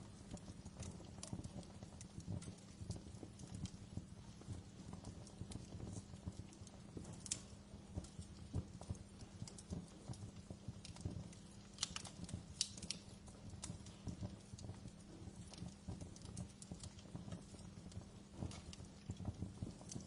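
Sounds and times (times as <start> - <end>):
low rumble of flame: 0.0 - 20.0
wood fire crackling and popping: 0.0 - 20.0.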